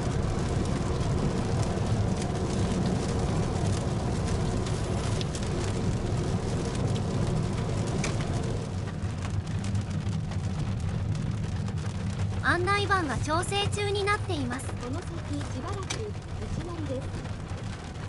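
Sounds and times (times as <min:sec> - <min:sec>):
rain ticking on car: 0:00.0 - 0:18.0
tyre and road noise: 0:00.0 - 0:18.0.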